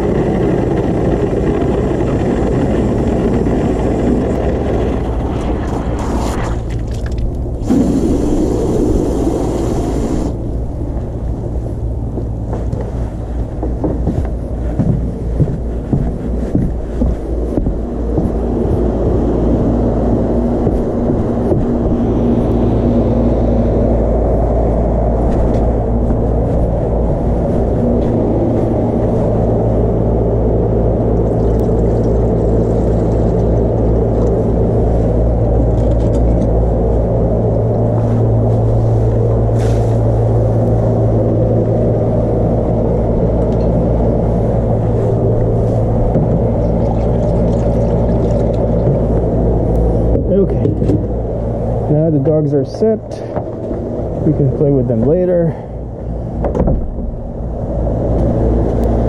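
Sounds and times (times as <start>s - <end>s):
constant hum: 0.0s - 59.0s
low rumble: 0.0s - 59.0s.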